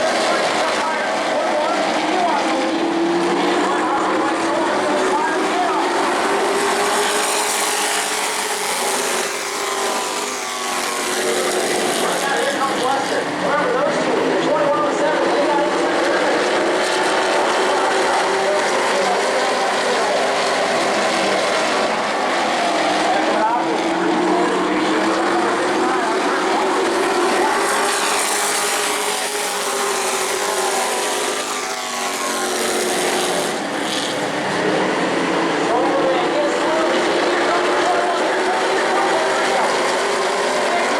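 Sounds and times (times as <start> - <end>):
racing truck engines revving: 0.0 - 40.9.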